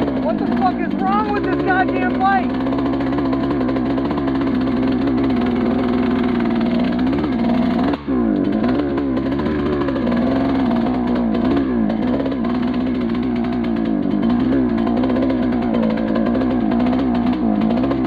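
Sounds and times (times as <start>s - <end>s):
dirt bike engine running rough: 0.0s - 18.0s.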